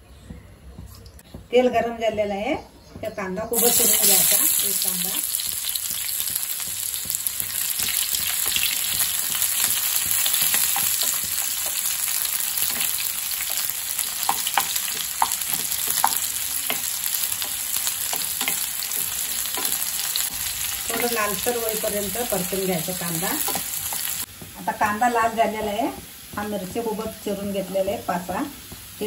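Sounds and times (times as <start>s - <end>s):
onion sizzling in oil: 3.5s - 29.0s.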